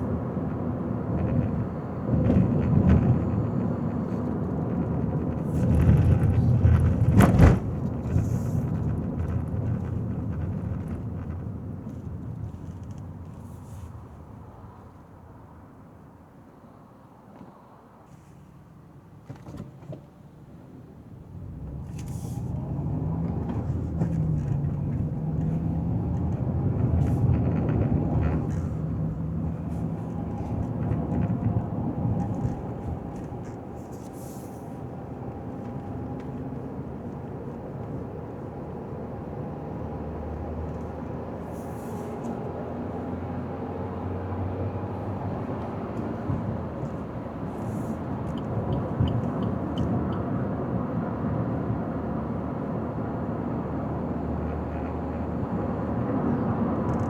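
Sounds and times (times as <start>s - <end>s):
car rumbling on road: 0.0s - 16.0s, 19.2s - 57.0s.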